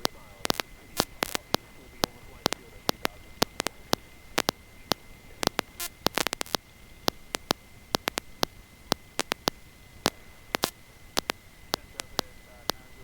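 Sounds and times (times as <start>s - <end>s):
high whine and hiss: 0.0s - 13.0s
static crackle clicks: 0.0s - 13.0s.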